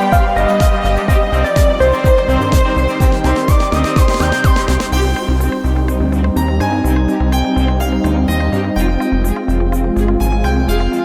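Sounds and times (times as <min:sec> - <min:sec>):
electronic new-age music: 0:00.0 - 0:11.0.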